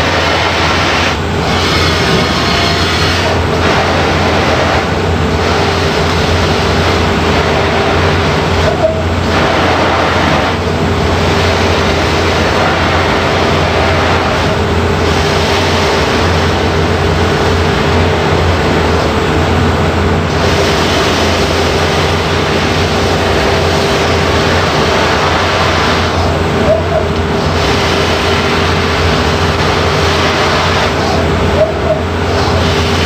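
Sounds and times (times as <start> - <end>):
polishing wheel humming and hissing: 0.0 - 33.0.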